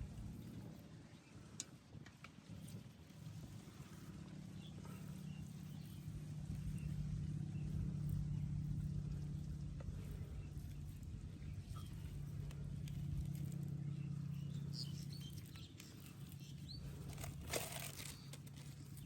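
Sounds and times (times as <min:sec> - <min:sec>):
small motor humming: 0:02.4 - 0:19.0.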